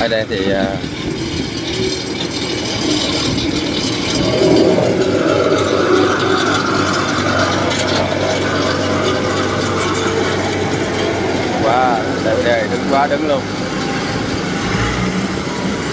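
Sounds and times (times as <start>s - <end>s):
crawler tracks clattering: 0.0s - 15.9s
tracked vehicle engine under load: 0.0s - 15.9s.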